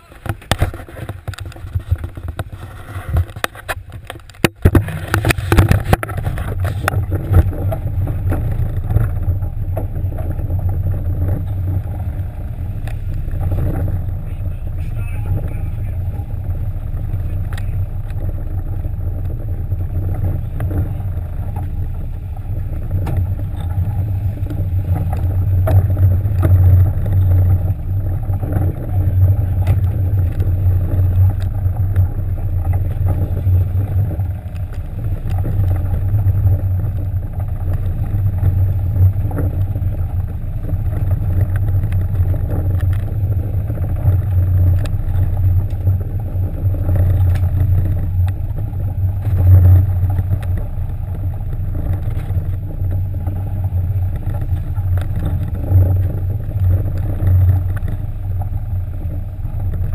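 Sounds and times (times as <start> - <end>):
boat engines droning: 0.0 - 59.9.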